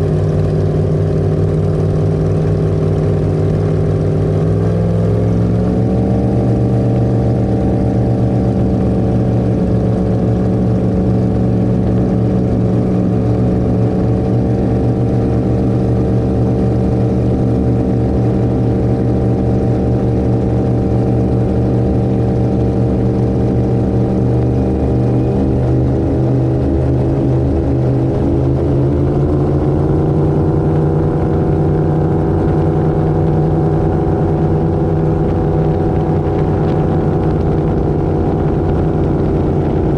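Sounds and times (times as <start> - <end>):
powerboat engines running: 0.0 - 39.9.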